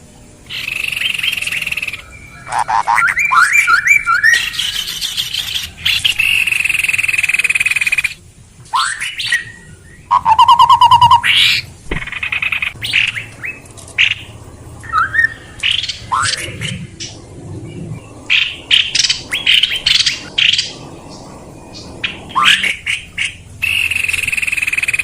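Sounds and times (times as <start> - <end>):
recorded songbird calls: 0.5 - 25.0.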